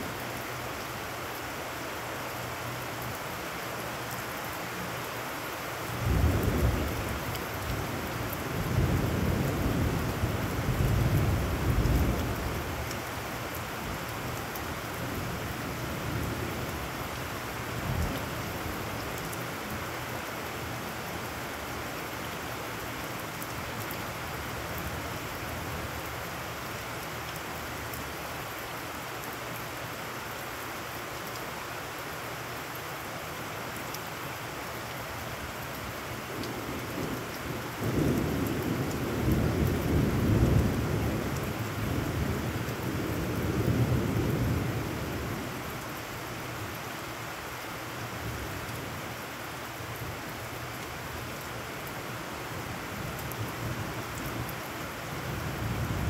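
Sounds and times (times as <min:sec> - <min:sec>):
heavy rain on puddled ground: 0:00.0 - 0:56.0.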